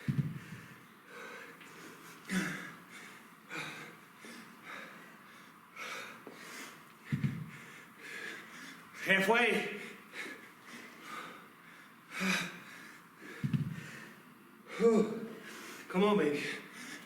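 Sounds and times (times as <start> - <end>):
man breathing hard: 0.0 - 9.0, 9.8 - 17.0.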